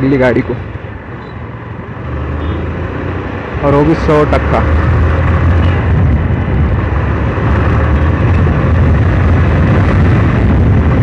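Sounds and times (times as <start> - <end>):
motorcycle engine at speed: 1.2 - 11.0.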